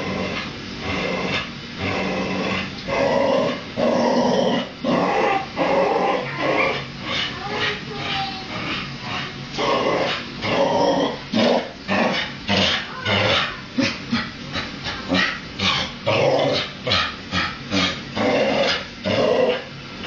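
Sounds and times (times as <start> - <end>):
dog growling: 0.0 - 19.7.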